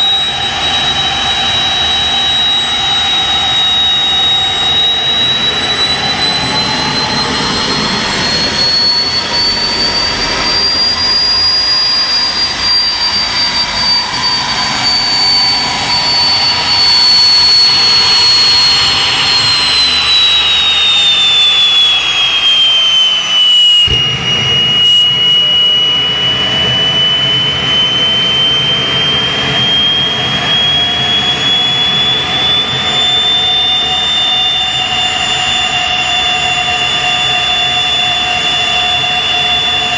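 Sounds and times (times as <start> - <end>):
deep rumble: 0.0 - 39.9
gas turbine engine whine: 0.0 - 39.9.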